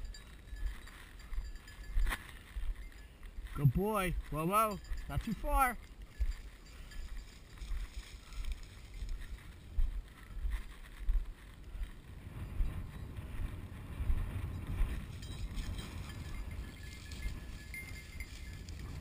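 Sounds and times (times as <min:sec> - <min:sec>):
dry grass rustling: 0:00.0 - 0:19.0
footsteps: 0:00.0 - 0:19.0
wind buffeting microphone: 0:00.0 - 0:19.0.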